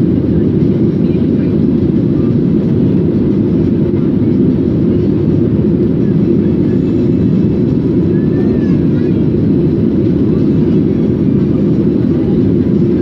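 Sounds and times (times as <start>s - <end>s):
airliner engine rumble: 0.0s - 13.0s.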